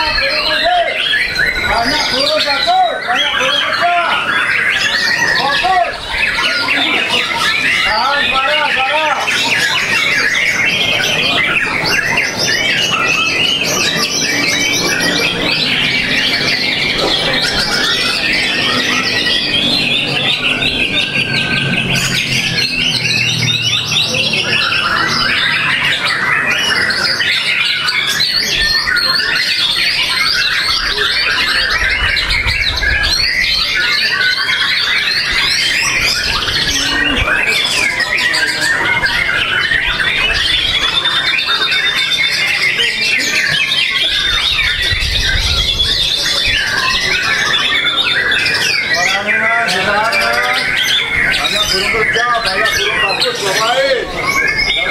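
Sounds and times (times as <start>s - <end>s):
bird singing trills and whistles: 0.0s - 54.9s.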